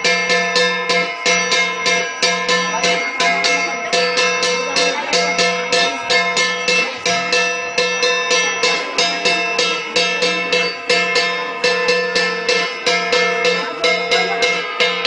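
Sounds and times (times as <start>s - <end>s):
bronze gongs struck: 0.0s - 15.0s
drum beating: 0.0s - 15.0s.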